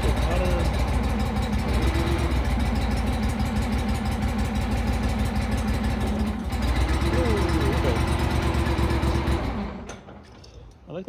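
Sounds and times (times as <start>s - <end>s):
engine running with low hum: 0.0s - 10.3s.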